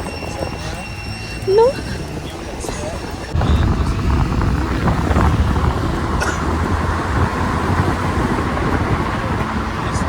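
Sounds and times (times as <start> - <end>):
vehicle road rumble: 0.0 - 10.0.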